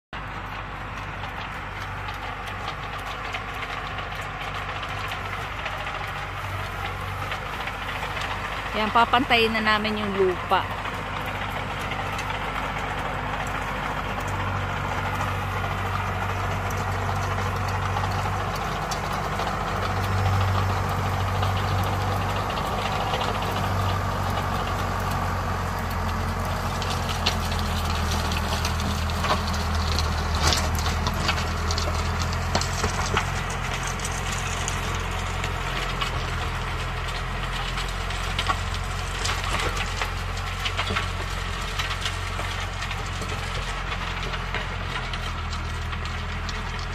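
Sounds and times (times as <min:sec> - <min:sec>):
tractor engine running under load: 0:00.0 - 0:46.9
clods and stones striking tiller blades: 0:00.2 - 0:46.9.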